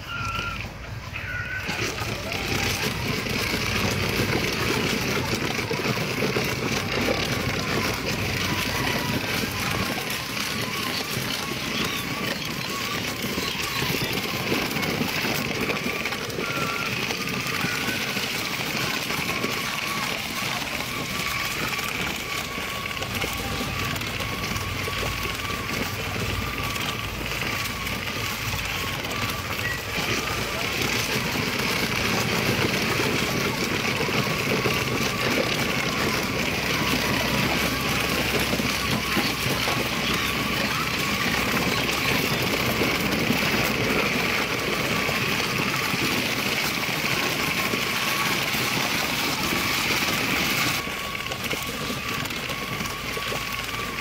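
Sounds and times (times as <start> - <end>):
toy tractor wheels on gravel: 0.0 - 54.0.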